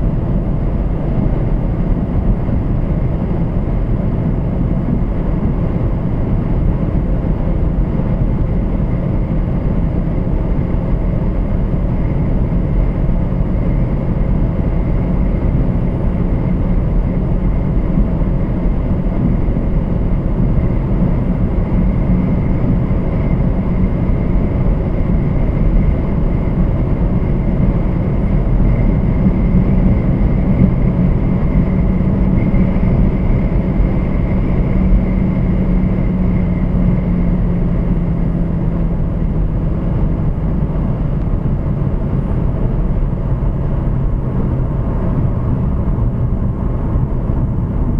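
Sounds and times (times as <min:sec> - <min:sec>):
car engine hum: 0:00.0 - 0:47.9
wind rush: 0:00.0 - 0:47.9.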